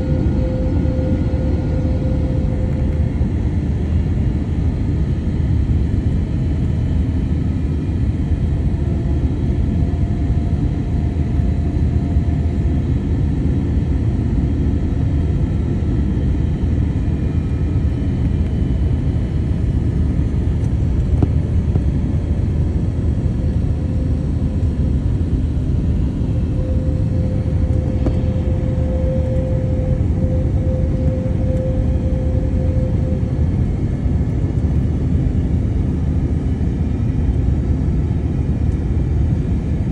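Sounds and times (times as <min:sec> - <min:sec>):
faint steady tone: 0:00.0 - 0:39.8
airplane cabin engine rumble: 0:00.0 - 0:39.9.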